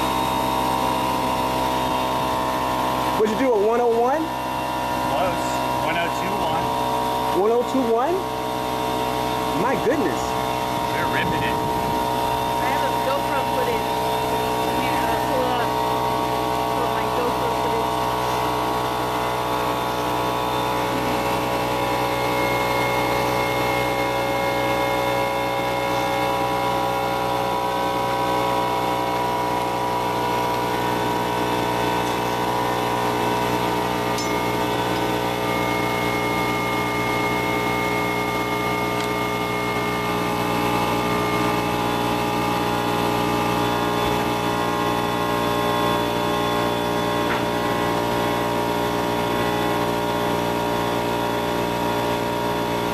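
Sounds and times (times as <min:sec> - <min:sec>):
go-kart engine running hard: 0:00.0 - 0:52.9.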